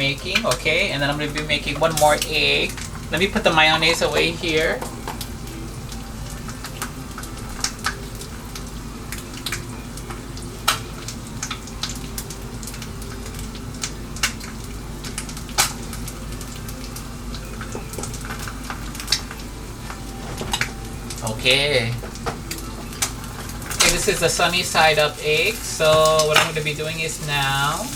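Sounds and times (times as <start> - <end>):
egg sizzling in a pan: 0.0 - 27.9.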